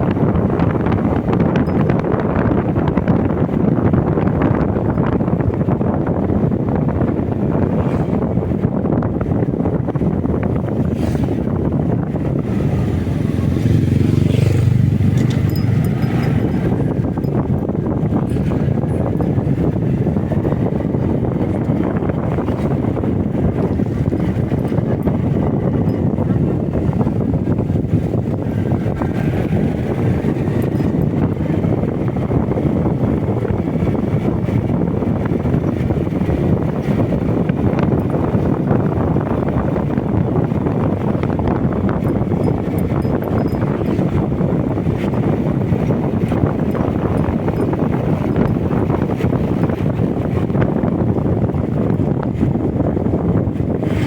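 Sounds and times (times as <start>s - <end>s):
motorcycle engine rumble: 0.0s - 54.0s
wind buffeting microphone: 0.0s - 54.0s.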